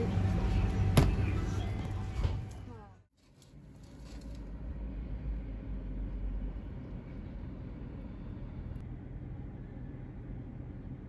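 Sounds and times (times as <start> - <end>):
vehicle low rumble: 0.0 - 11.0.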